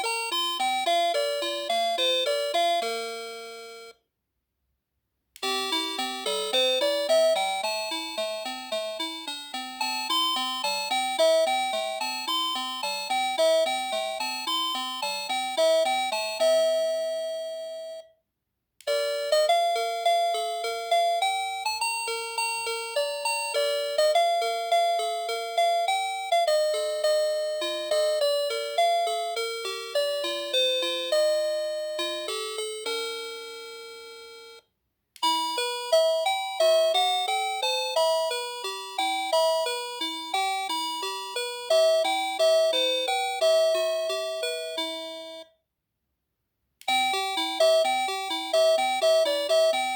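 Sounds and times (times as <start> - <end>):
electronic doorbell chime melodies: 0.0 - 4.0, 5.4 - 18.2, 18.9 - 34.6, 35.2 - 45.6, 46.9 - 49.9.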